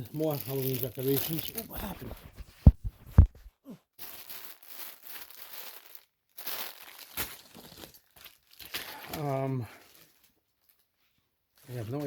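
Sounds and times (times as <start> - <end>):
packaging crinkling and tearing: 0.0 - 3.4, 4.0 - 10.8.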